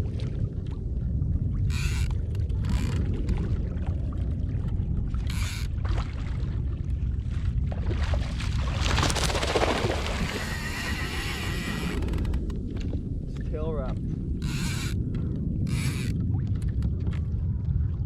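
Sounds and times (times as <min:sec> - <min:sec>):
water rushing around kayak: 0:00.0 - 0:18.0
wind: 0:00.0 - 0:18.0.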